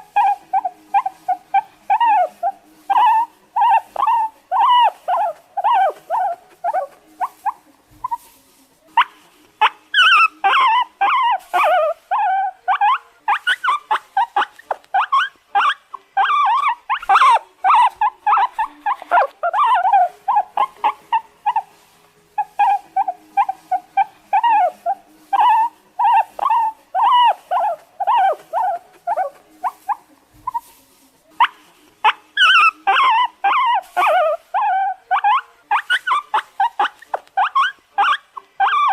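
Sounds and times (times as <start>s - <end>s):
guinea pig squealing: 0.0s - 38.9s.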